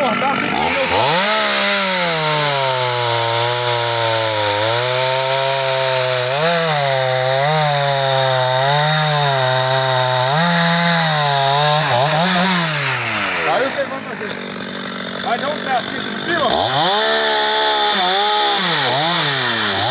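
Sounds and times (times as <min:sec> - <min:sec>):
chainsaw cutting into a log: 0:00.0 - 0:19.9.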